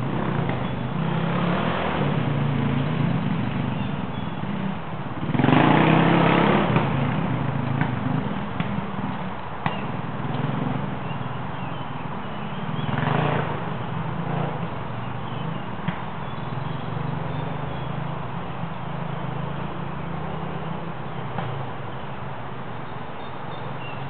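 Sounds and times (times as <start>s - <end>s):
dirt bike passing close: 0.0s - 11.2s, 12.1s - 21.7s
dirt bike engines revving: 0.0s - 24.0s.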